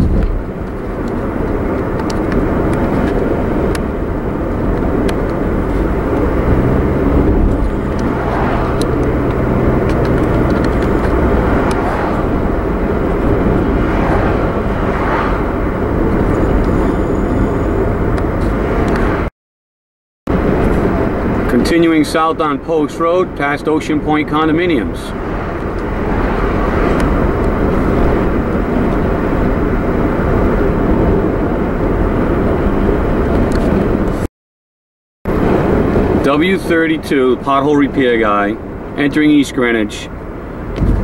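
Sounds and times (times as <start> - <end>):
car engine and tyre noise: 0.0 - 19.3, 20.3 - 34.3, 35.3 - 41.0
low engine hum: 0.0 - 19.3, 20.3 - 34.3, 35.3 - 41.0.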